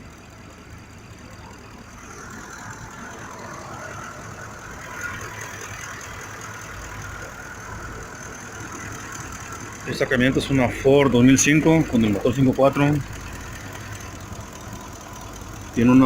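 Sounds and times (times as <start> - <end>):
engine idling with misfire: 0.0 - 16.0.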